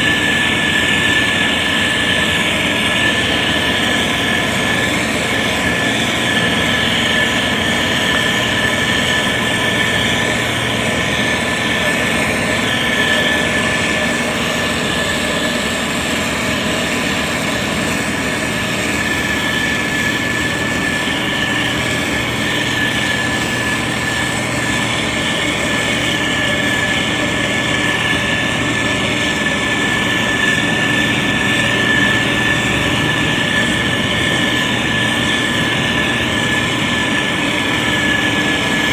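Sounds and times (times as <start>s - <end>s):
high-pitched whine: 0.0s - 38.9s
motor grader diesel engine: 0.0s - 38.9s.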